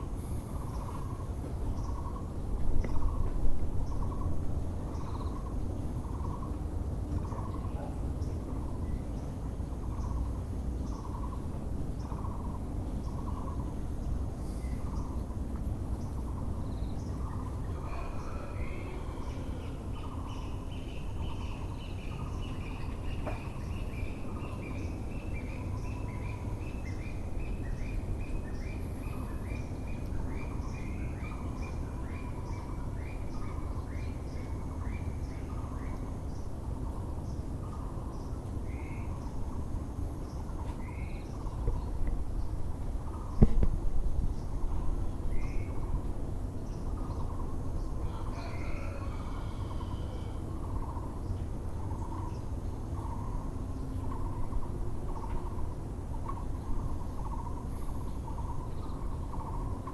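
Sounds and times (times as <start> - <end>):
low city rumble: 0.0 - 59.9.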